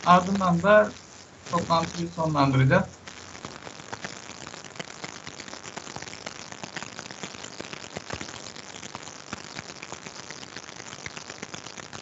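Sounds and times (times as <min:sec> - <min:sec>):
crackling static: 0:00.0 - 0:12.0.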